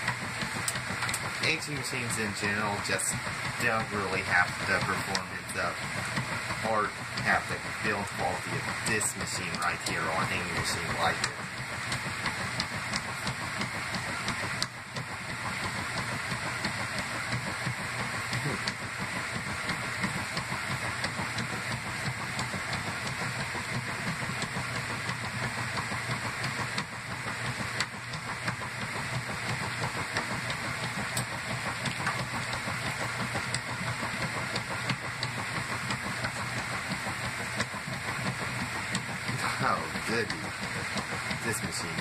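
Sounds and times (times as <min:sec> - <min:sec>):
washer motor humming: 0:00.0 - 0:42.0.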